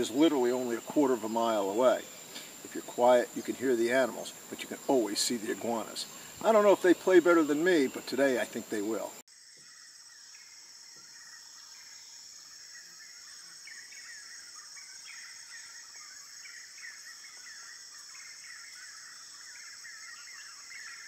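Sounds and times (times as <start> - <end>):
bird chirps: 0.0 - 21.0
high-pitched insect drone: 0.0 - 21.0.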